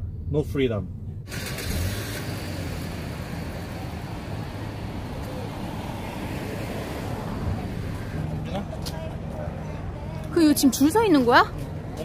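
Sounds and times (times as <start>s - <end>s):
passing cars rushing: 1.3s - 12.0s.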